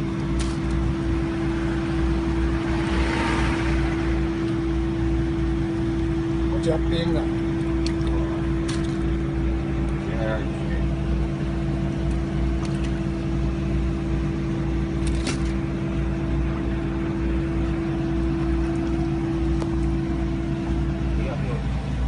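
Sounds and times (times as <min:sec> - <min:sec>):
machine humming with steady tone: 0:00.0 - 0:22.0.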